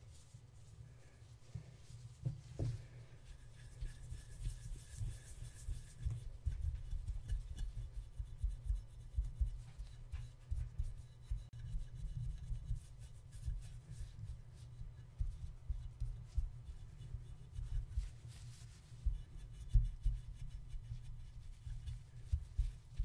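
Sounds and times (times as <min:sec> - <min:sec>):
cloth rubbing inside metal creamer: 0:00.0 - 0:23.0.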